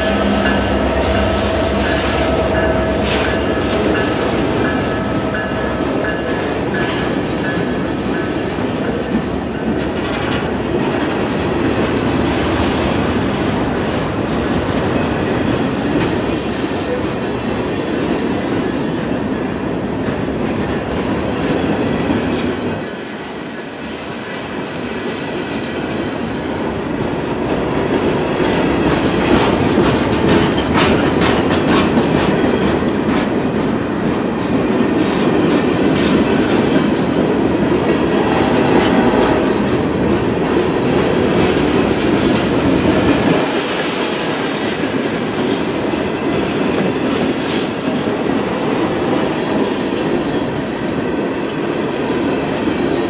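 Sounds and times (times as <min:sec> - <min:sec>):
clickety-clack over rail joints: 0:00.0 - 0:53.0
freight train wheels rumbling: 0:00.0 - 0:53.0.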